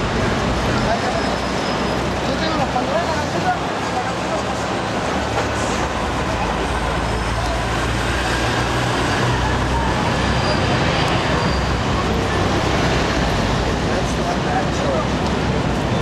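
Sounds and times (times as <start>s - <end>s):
heavy vehicle engine drone: 0.0s - 16.0s
passing motor vehicles rumble: 0.0s - 16.0s.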